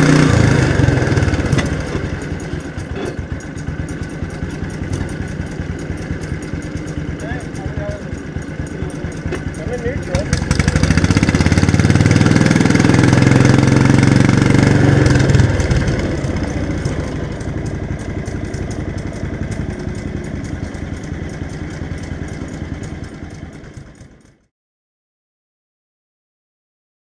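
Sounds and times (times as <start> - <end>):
garden tractor engine running: 0.0 - 24.5.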